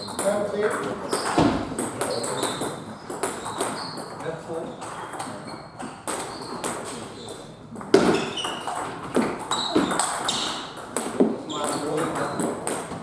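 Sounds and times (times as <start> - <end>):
table tennis ball hitting rackets: 0.0 - 13.0.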